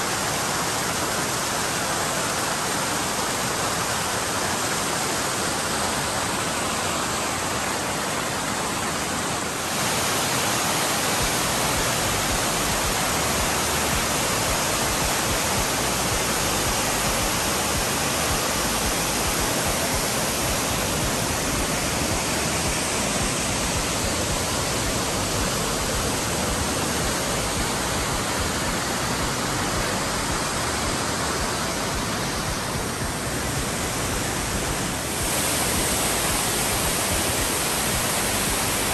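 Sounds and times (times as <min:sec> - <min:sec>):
creek rushing: 0:00.0 - 0:38.9
waterfall cascading over rock: 0:00.0 - 0:38.9.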